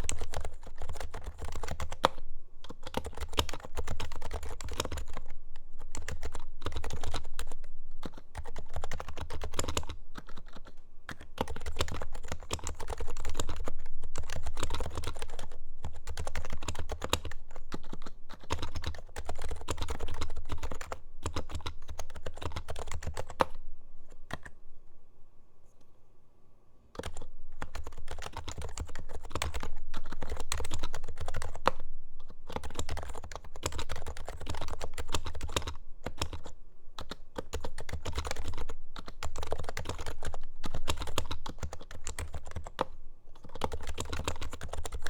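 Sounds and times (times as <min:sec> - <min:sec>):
fast typing on keyboard: 0:00.0 - 0:23.6, 0:27.0 - 0:31.8, 0:32.5 - 0:45.0.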